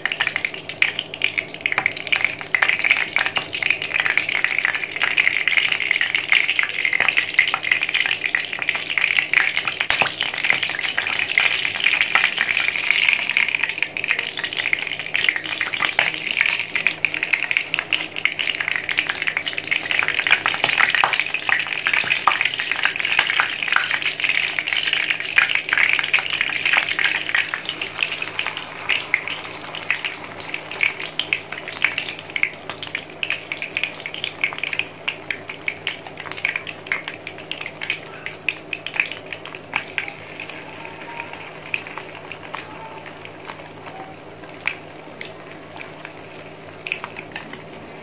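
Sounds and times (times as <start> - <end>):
chicken sizzling in hot oil: 0.0 - 48.0.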